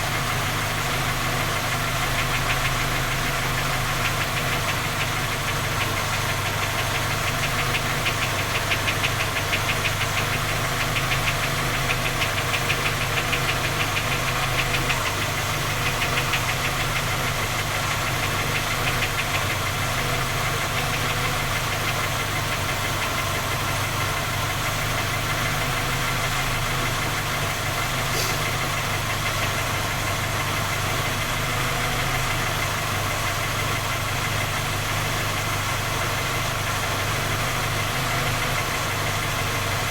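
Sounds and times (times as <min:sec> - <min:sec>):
car engine idling with knocking tick: 0:00.0 - 0:39.9.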